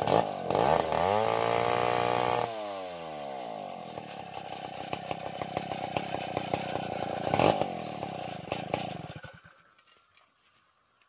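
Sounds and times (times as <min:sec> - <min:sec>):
chainsaw idling unevenly: 0:00.0 - 0:10.5.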